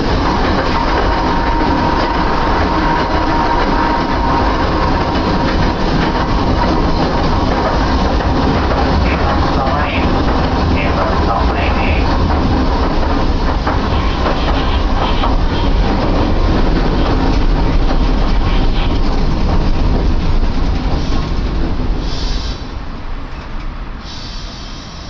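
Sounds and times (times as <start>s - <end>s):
rail clicks: 0.0s - 25.0s
streetcar rumbling on rails: 0.0s - 25.0s.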